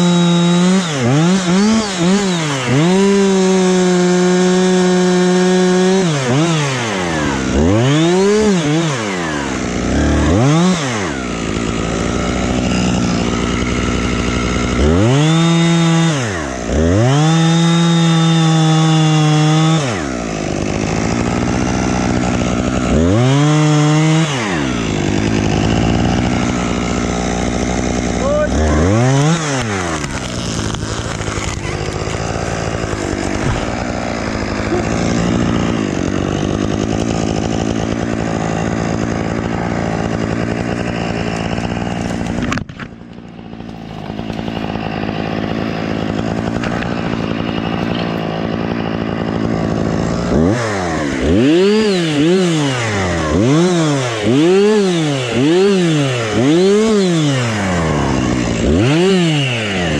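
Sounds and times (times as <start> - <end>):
chainsaw running at high revs: 0.0 - 59.9.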